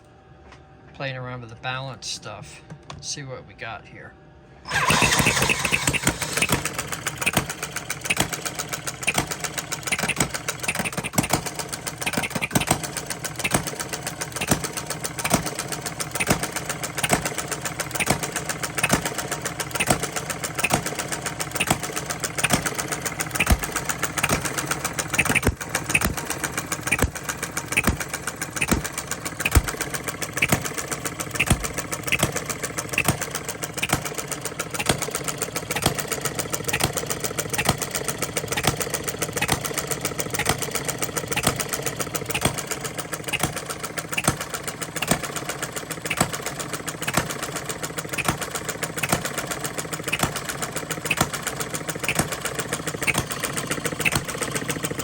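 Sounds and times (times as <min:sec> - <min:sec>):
small engine starting and running: 0:04.6 - 0:55.0.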